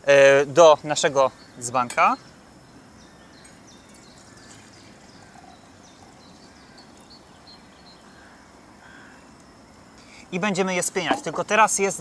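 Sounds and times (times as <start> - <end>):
small birds chirping: 0.0 - 12.0
soft outdoor hiss: 0.0 - 12.0.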